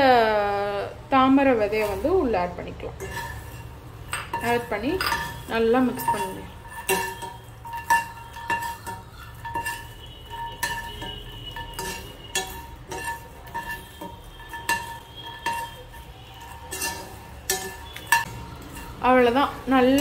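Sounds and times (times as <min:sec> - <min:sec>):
metal spoon clinking and scraping pan: 0:01.4 - 0:20.0.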